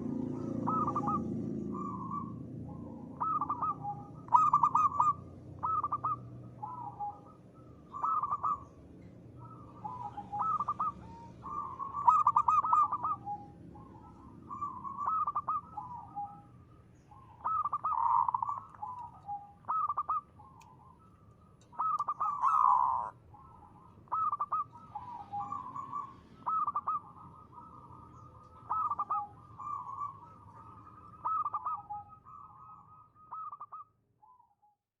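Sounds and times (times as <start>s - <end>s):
dove cooing: 0.0s - 34.5s.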